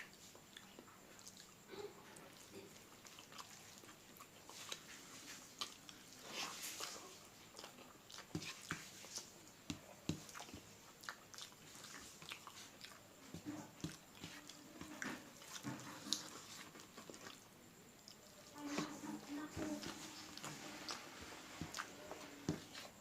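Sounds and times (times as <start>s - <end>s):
chewing and wet mouth smacks: 0.0s - 18.5s, 19.8s - 23.0s.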